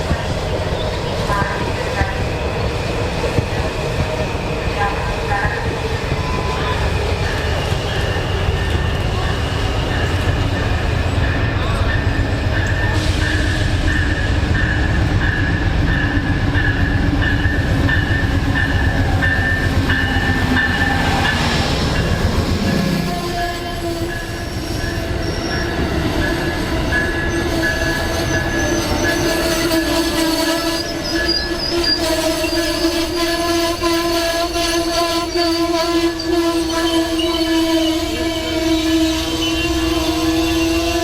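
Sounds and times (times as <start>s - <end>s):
train rhythmic rumble: 0.0s - 41.0s
train wheels squealing on rails: 0.0s - 41.0s.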